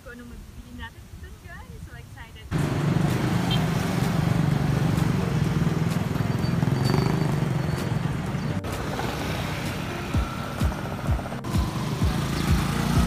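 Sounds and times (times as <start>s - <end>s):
street traffic: 0.0s - 13.0s
motorcycles passing: 2.5s - 13.0s
vehicle engine running: 2.5s - 13.0s.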